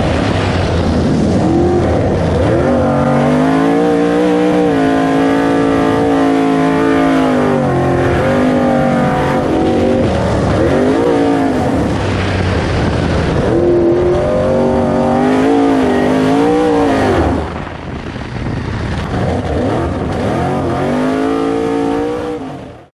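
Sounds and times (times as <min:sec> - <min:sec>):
truck engine revving hard: 0:00.0 - 0:22.9.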